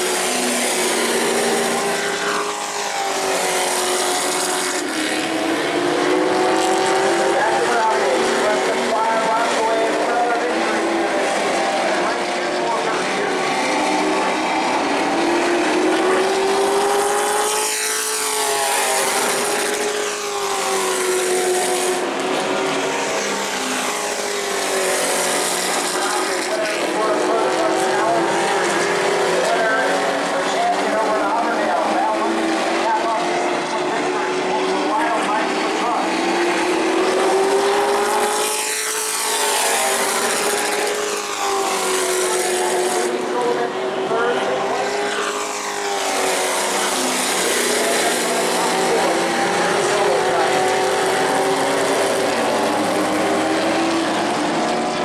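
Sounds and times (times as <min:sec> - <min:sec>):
racing truck engine: 0:00.0 - 0:55.0.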